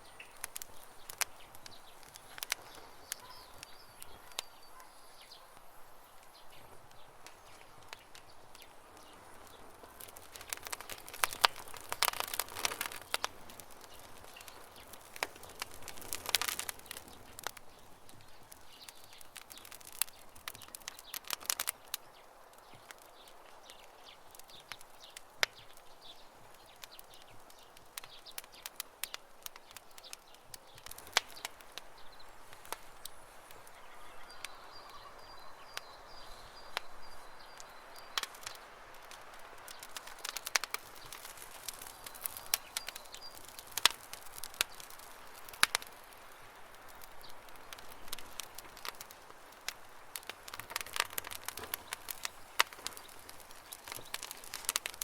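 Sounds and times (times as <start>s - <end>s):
birds chirping: 0.0s - 49.0s, 49.9s - 55.0s
campfire crackling: 0.0s - 55.0s.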